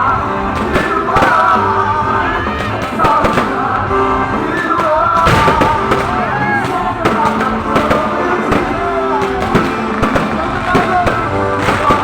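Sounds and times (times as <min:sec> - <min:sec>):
fireworks bangs: 0:00.0 - 0:12.0
loud music with singing: 0:00.0 - 0:12.0.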